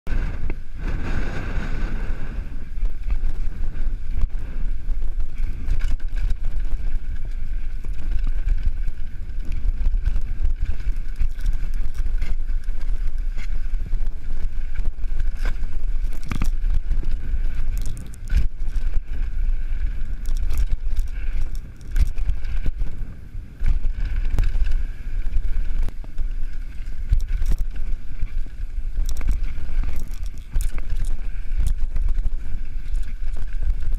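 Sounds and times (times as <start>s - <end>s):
wind noise on microphone: 0.0s - 33.9s
bike rattling over rough trail: 0.1s - 33.9s
low rumble: 0.1s - 33.9s.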